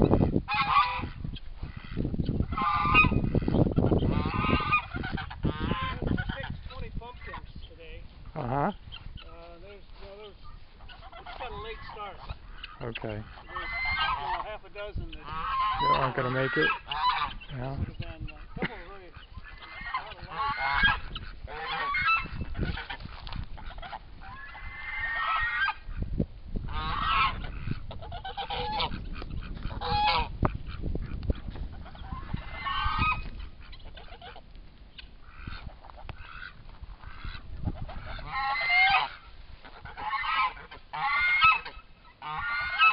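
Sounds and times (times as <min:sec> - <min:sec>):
geese honking: 0:00.0 - 0:42.9.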